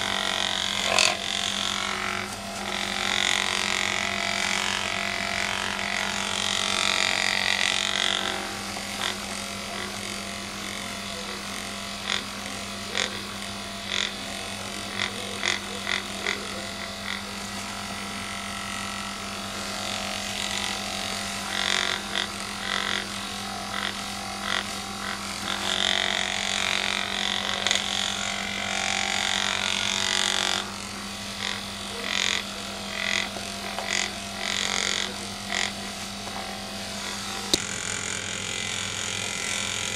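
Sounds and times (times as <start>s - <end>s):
handheld massager humming: 0.0s - 39.9s.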